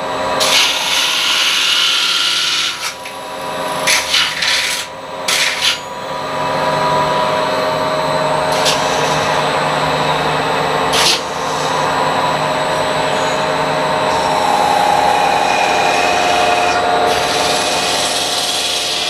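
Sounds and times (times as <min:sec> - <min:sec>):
machine hum: 0:00.0 - 0:19.0
metal spinning grinding noise: 0:00.2 - 0:19.0.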